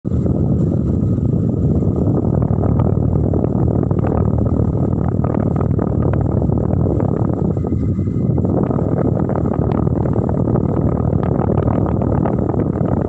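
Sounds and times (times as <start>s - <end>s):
motorboat engine drone: 0.1s - 13.0s
water rushing: 0.3s - 13.0s.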